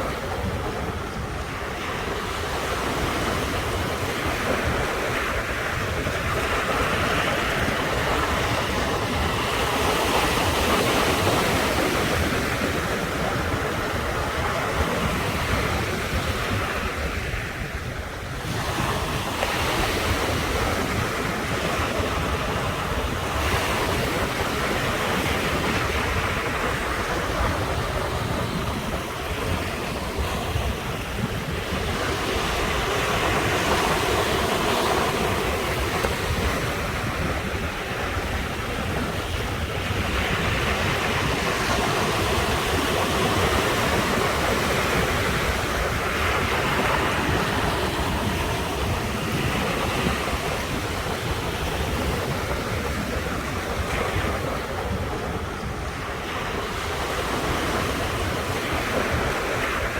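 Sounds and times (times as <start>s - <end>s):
waves washing onto shore: 0.0s - 59.9s
wind buffeting microphone: 0.0s - 59.9s.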